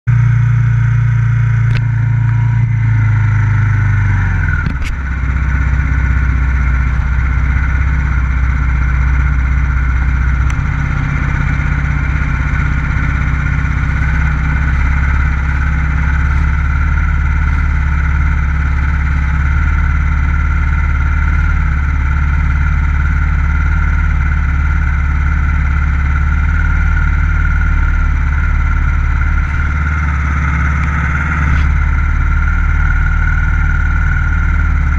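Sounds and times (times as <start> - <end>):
motorcycle engine running loud: 0.0 - 34.9.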